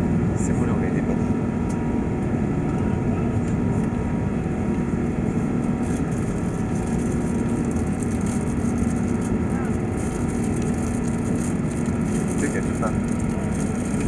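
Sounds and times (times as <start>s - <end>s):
jet engine cabin noise: 0.0s - 14.0s.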